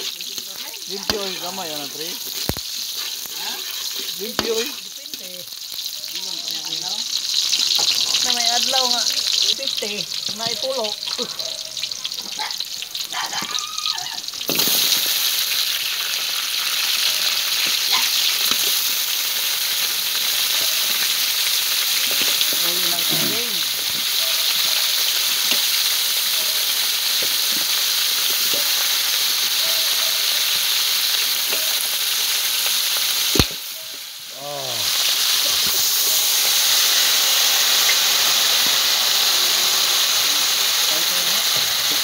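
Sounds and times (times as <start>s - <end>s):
garlic and onion frying in oil: 0.0s - 42.0s
meat sizzling in hot wok: 0.0s - 42.0s.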